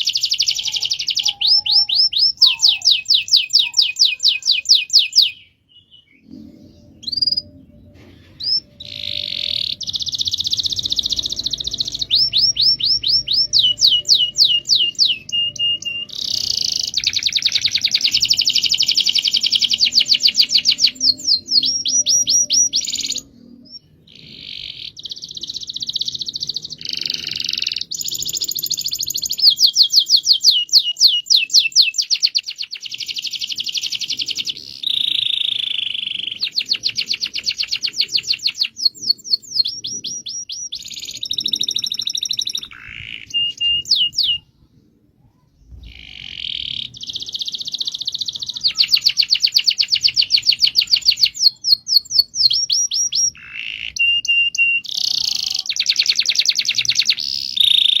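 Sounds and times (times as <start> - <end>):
canary singing trills: 0.0 - 44.7, 45.3 - 58.0.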